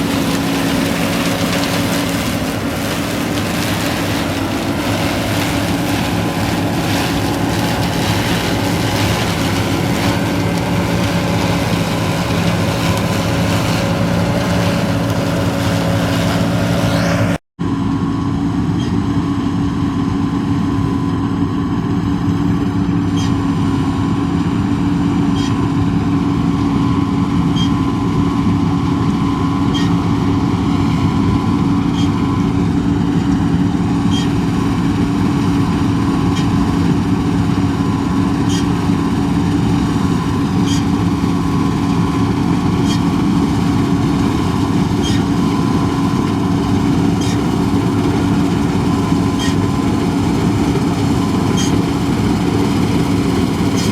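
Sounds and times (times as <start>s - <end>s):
combine harvester drone: 0.0s - 53.9s.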